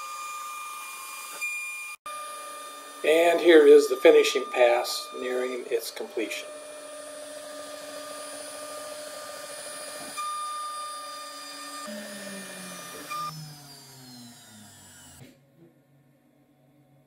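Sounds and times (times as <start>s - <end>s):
router spindle whining: 0.0s - 15.3s.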